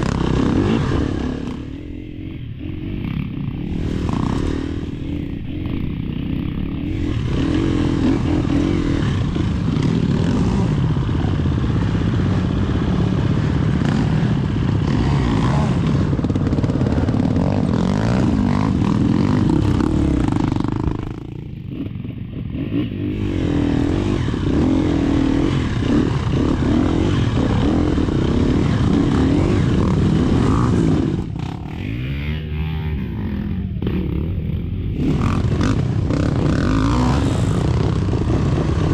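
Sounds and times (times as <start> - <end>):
off-road motorcycle engine revving: 0.0 - 38.9.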